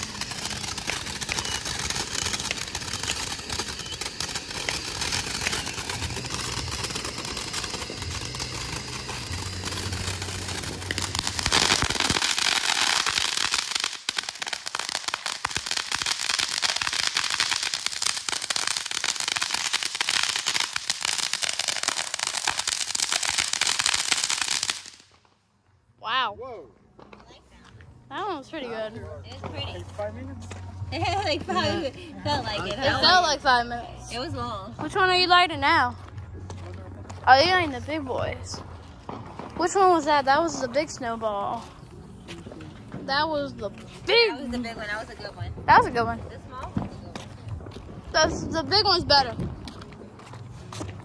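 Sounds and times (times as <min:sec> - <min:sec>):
fountain firework crackling: 0:00.0 - 0:25.3, 0:30.9 - 0:51.0.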